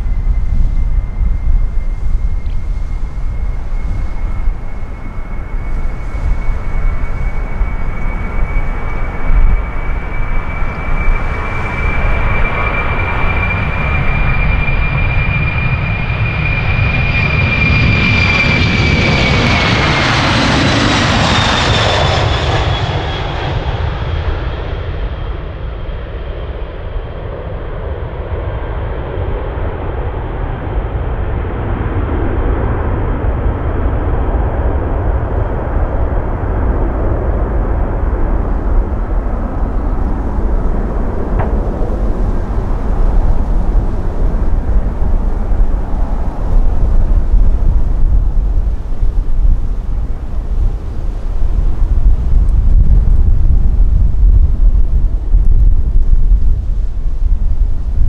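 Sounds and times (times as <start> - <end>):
high fan whine: 0.0 - 22.6, 30.2 - 58.0
jet taking off: 0.0 - 58.0.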